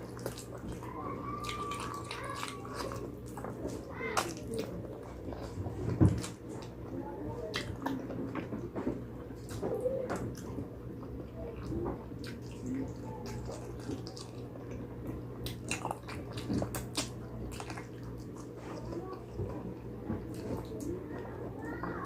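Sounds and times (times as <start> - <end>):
steady low hum: 0.0 - 22.0
wet chewing and smacking: 0.0 - 22.0.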